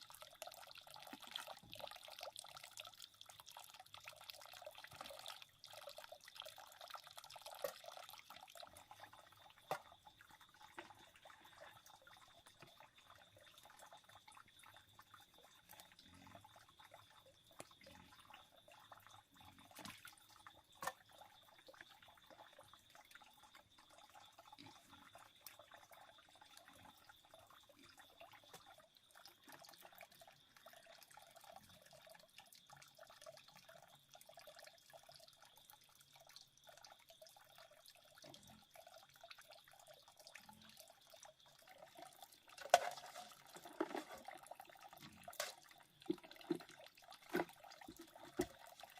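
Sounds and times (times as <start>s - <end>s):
stream water trickling and dripping: 0.0s - 48.9s.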